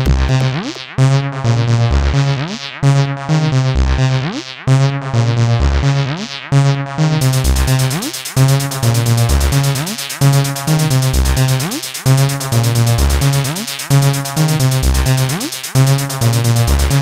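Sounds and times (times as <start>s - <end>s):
synthesizer electronic music: 0.0s - 17.0s.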